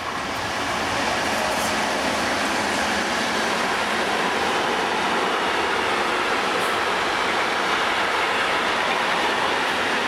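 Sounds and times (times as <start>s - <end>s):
train wheels rolling on rails: 0.0s - 10.0s.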